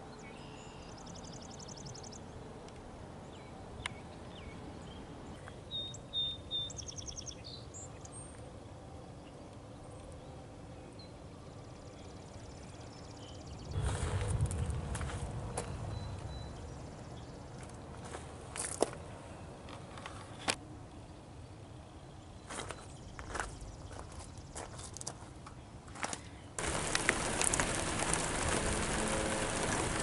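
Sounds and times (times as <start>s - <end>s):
songbirds chirping and trilling: 0.0s - 13.8s, 14.7s - 30.0s
outdoor background hiss: 0.0s - 30.0s.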